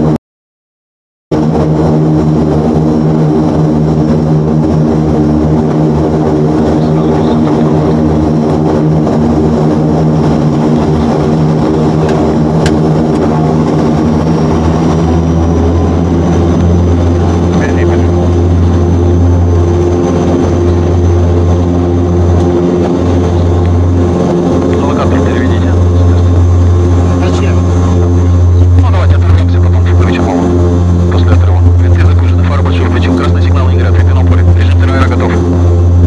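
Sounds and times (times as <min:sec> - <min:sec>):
turboprop propeller drone: 0:01.3 - 0:36.0.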